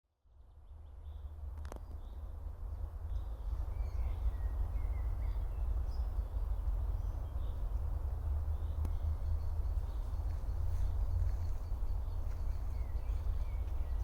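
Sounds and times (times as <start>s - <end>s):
songbirds chirping: 0.1s - 14.0s
steady low rumble: 0.6s - 14.0s.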